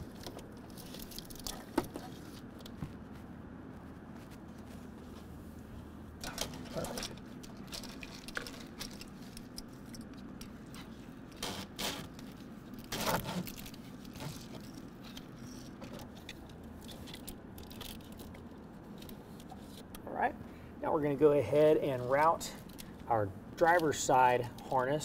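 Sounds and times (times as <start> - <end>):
wiring harness rustling and clicking: 0.0 - 3.3, 6.2 - 20.0, 22.0 - 25.0.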